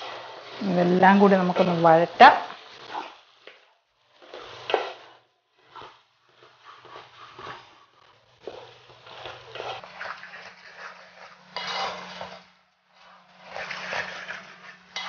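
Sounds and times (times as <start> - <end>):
wooden ladle scraping pan: 0.0 - 3.6, 4.2 - 15.0
potatoes and onions frying: 0.0 - 15.0.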